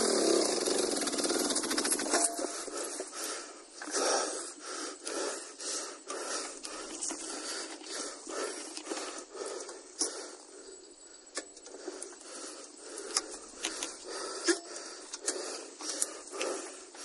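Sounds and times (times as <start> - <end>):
person panting hard: 2.4 - 10.8, 11.7 - 17.0.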